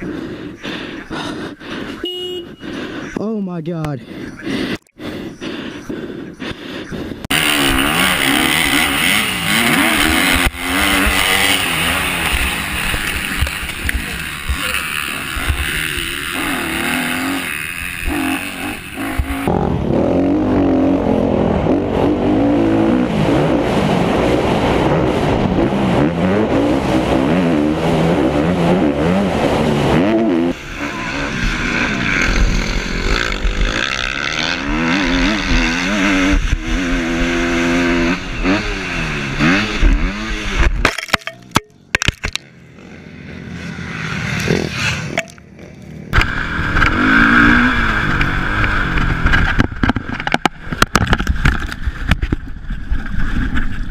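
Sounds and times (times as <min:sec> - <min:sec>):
motorcycle engine revving: 0:07.2 - 0:52.6.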